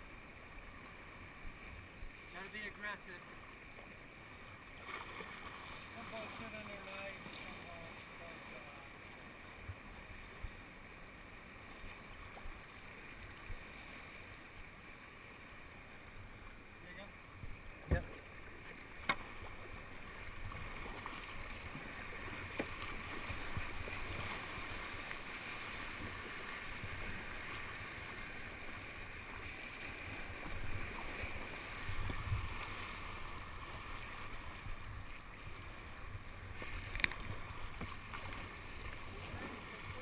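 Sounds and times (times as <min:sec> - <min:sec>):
river water rushing: 0:00.0 - 0:40.0
paddle strokes splashing: 0:00.6 - 0:10.6, 0:11.3 - 0:40.0.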